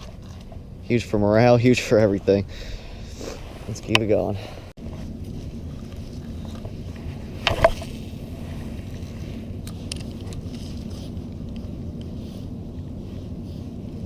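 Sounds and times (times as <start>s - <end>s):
moving water: 0.0s - 14.0s
wind: 0.0s - 14.0s.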